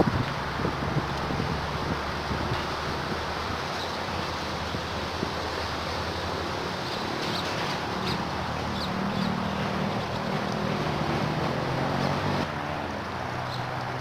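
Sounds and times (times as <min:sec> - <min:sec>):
water: 0:00.0 - 0:14.0
wind: 0:00.0 - 0:14.0.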